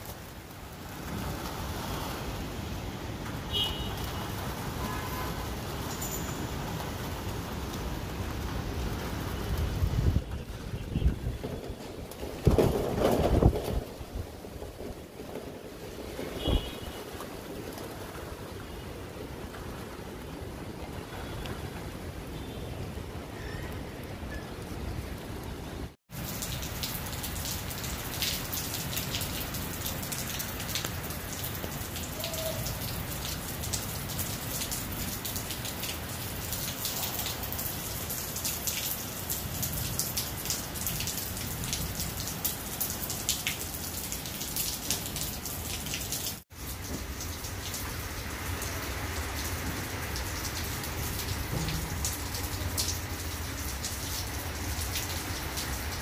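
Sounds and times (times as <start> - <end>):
rain pattering on concrete: 0.0 - 56.0.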